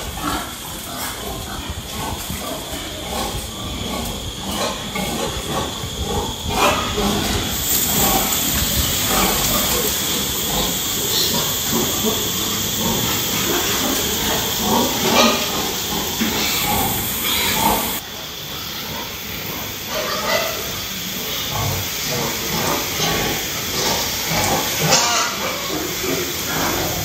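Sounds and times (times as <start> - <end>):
loud steady hiss: 0.0 - 27.0
pigs grunting: 0.0 - 27.0
pigs shuffling in a pen: 0.0 - 27.0.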